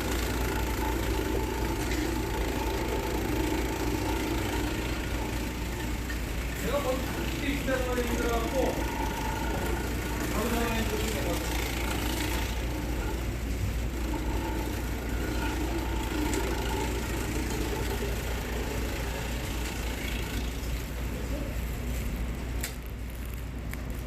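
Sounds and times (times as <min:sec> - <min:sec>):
slicing machine motor hum: 0:00.0 - 0:21.3.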